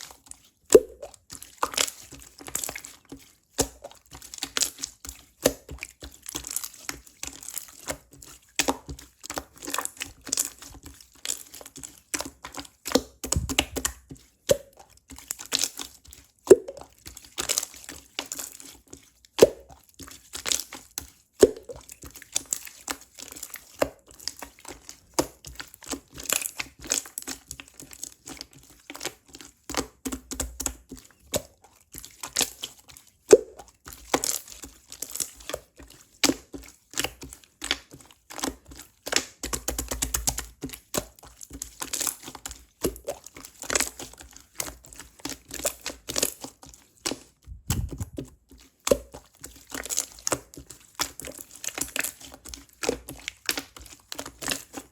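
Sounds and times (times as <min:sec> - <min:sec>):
slime squishing with wet pops: 0:00.0 - 0:54.9.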